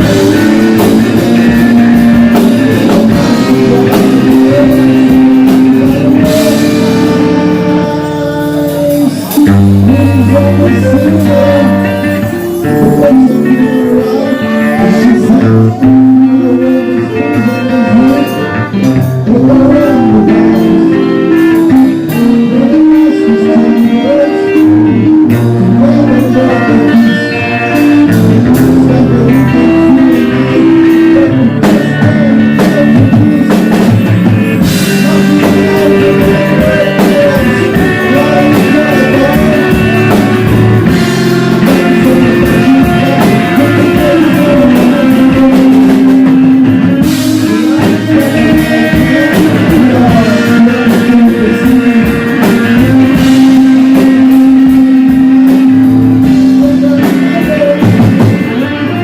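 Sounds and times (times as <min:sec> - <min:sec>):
drum kit beat: 0:00.0 - 0:59.0
guitars: 0:00.0 - 0:59.0.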